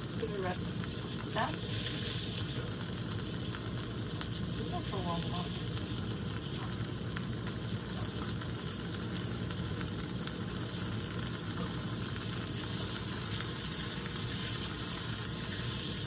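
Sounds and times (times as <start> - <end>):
faint crackles: 0.0 - 16.0
food sizzling in a pan: 0.0 - 16.0.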